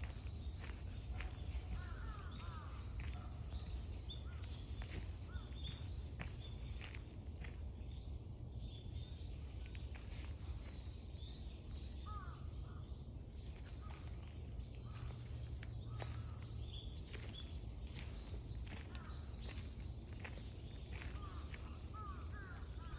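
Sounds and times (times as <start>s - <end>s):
small birds chirping: 0.0s - 8.2s, 8.8s - 22.9s.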